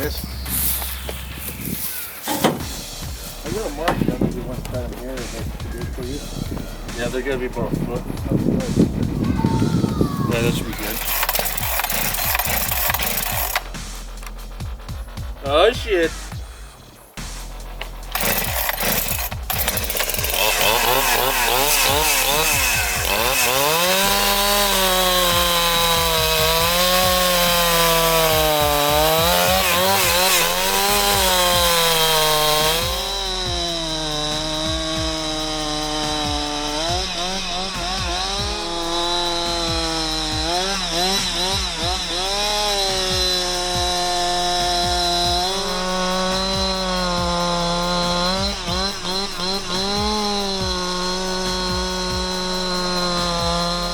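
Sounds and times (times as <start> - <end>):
chainsaw cutting logs: 0.0 - 53.9.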